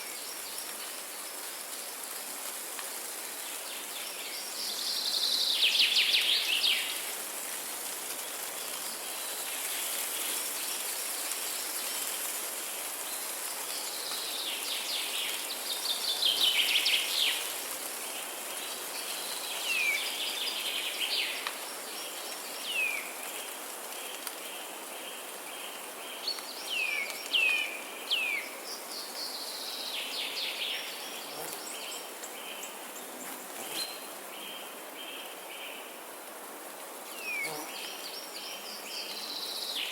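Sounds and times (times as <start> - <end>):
steady high hiss: 0.0 - 39.9.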